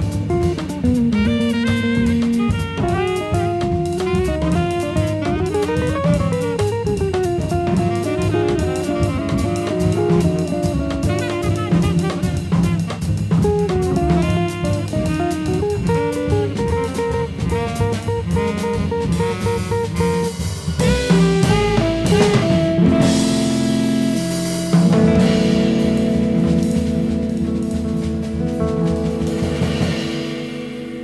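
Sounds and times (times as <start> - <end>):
bass: 0.0 - 31.0
drum kit: 0.0 - 31.0
jazz guitar melody: 0.0 - 31.0.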